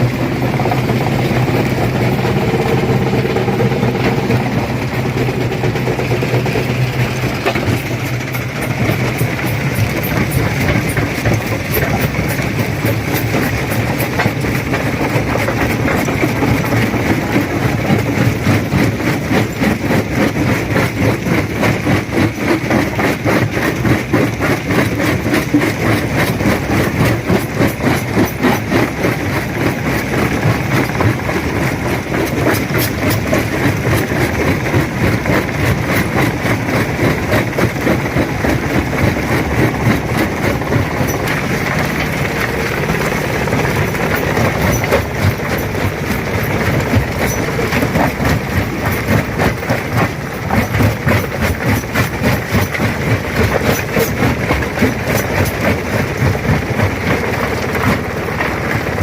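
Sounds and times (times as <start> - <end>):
machine hum: 0.0 - 59.0
rocks cracking in stone crusher: 0.0 - 59.0.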